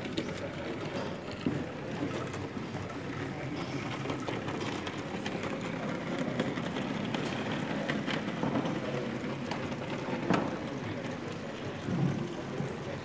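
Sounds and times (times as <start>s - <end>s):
model steam locomotive running: 0.0s - 13.0s
murmur of crowd in hall: 0.0s - 13.0s.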